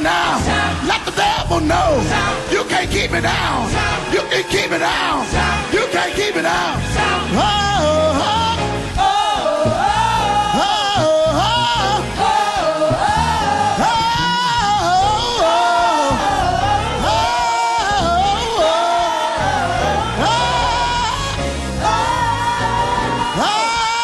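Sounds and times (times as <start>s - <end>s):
person singing long wordless notes: 0.0s - 24.0s.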